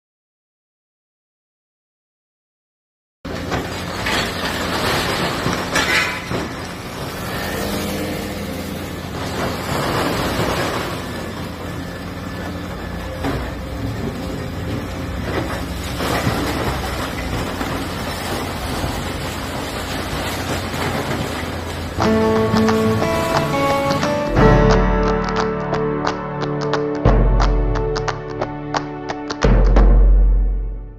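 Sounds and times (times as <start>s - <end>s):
diesel excavator engine running: 3.3s - 30.5s.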